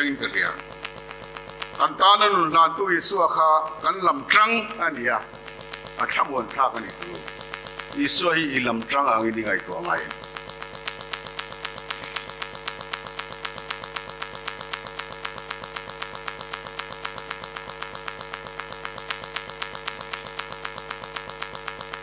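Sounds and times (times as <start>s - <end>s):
electrical hum and buzz: 0.0s - 22.0s
fast even clicking: 0.0s - 22.0s.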